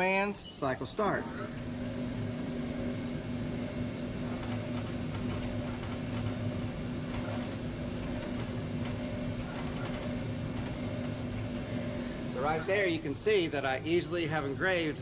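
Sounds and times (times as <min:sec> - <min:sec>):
milling spindle humming: 0:00.0 - 0:15.0.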